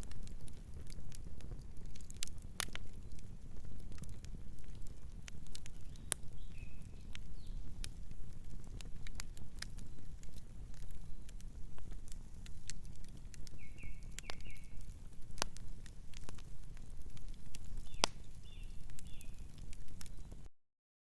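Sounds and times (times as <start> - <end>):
low rumble of flames: 0.0 - 20.5
wood fire crackling and popping: 0.0 - 20.5.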